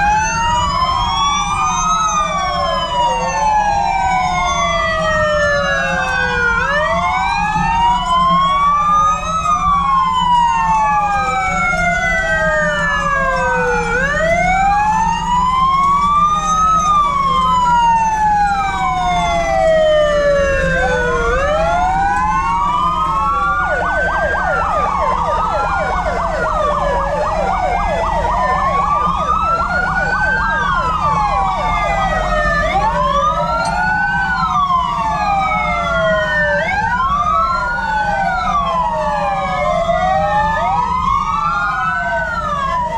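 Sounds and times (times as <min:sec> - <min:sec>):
fire engine sirens wailing: 0:00.0 - 0:42.9
vehicle engines rumbling: 0:00.0 - 0:42.9.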